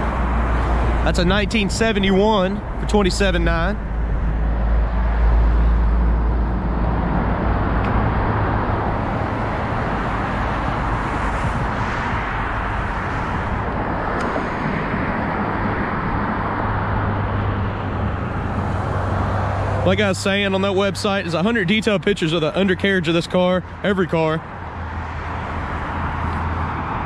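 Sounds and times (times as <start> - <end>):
road traffic rushing: 0.0 - 27.0.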